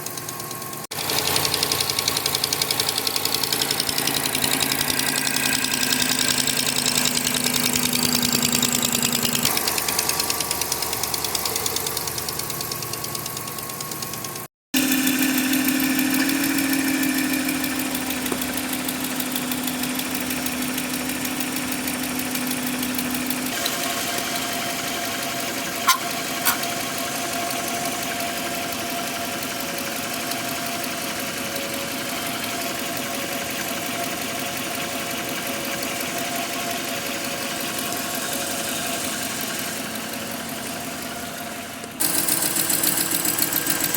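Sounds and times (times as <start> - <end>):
car engine idling: 0.0 - 43.9
rapid engine ticking: 0.0 - 43.9.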